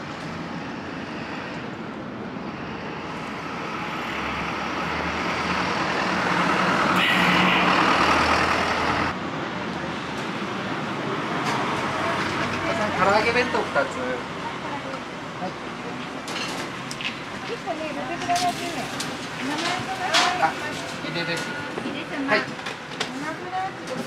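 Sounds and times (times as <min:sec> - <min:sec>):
street traffic noise: 0:00.0 - 0:24.0
vehicle engine: 0:00.0 - 0:24.0.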